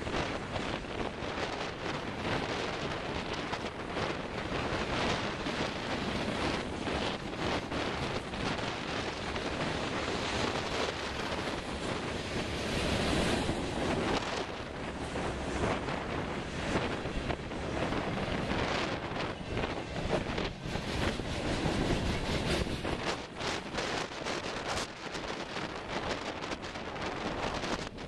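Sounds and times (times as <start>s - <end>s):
freight train cars rolling: 0.0s - 28.0s
gusty wind buffeting microphone: 0.0s - 28.0s.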